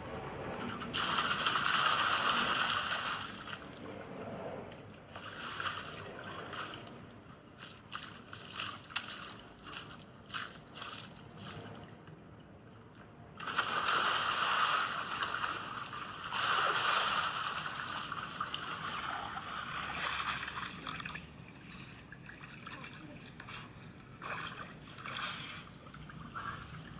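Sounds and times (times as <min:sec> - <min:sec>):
water pouring and splashing: 0:01.0 - 0:03.9, 0:05.1 - 0:12.2, 0:13.4 - 0:26.9.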